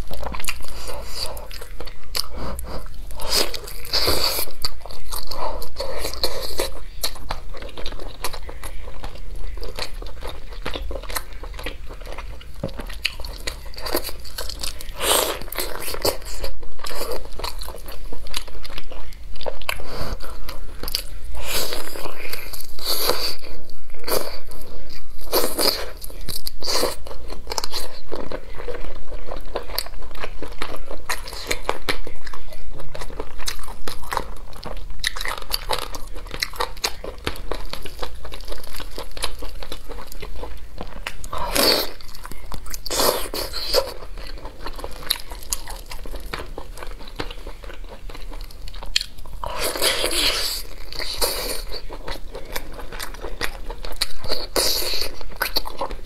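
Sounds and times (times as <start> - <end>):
biting and chewing chicken: 0.0 - 56.0.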